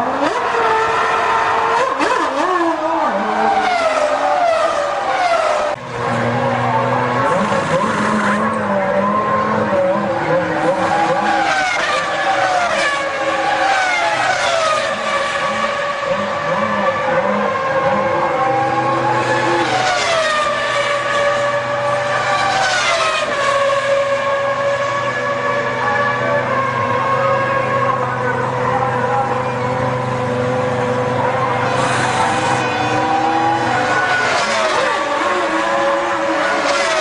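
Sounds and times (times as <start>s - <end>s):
racing car engines revving and passing: 0.0s - 37.0s.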